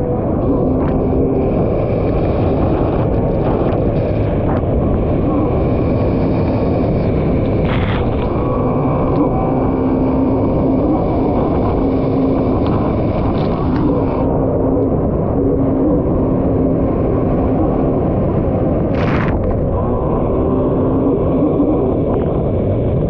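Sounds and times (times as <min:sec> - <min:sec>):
jet ski engine running: 0:00.0 - 0:23.0
wind noise: 0:00.0 - 0:23.0.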